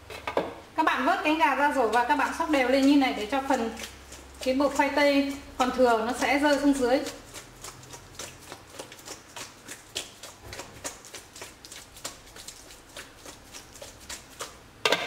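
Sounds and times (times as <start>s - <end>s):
chicken wings patter in colander: 1.5s - 14.7s.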